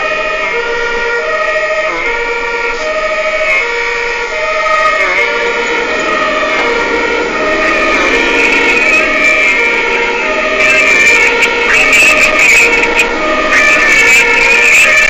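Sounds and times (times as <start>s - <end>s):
two-tone fire engine siren: 0.0s - 15.0s.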